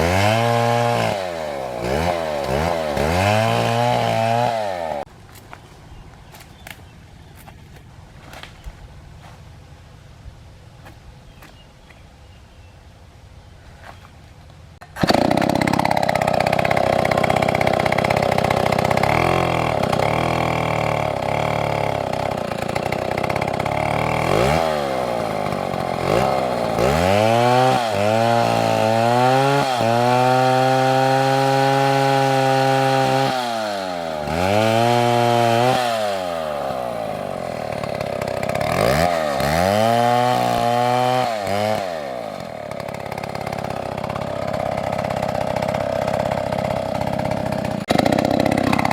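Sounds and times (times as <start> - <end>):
chainsaw cutting wood: 0.0 - 5.4, 14.8 - 48.9.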